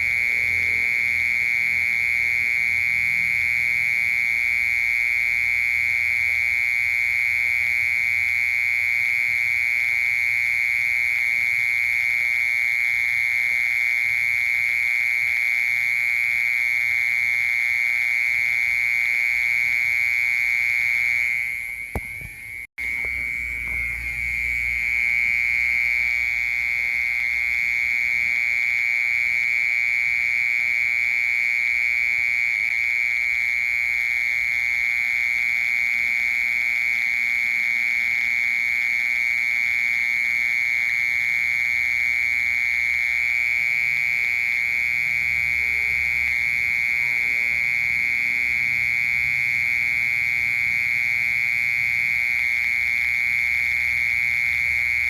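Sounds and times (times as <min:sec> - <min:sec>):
cricket trilling: 0:00.0 - 0:55.0.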